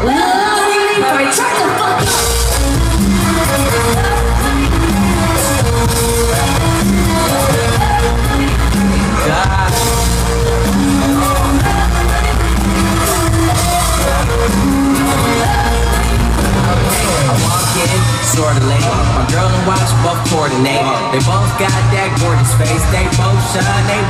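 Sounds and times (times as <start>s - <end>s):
live pop music: 0.0s - 24.0s
person singing: 0.0s - 24.0s.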